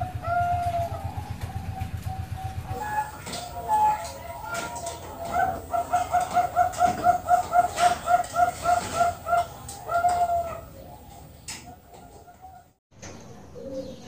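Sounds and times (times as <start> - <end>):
dove cooing: 0.0 - 12.8, 13.6 - 14.0.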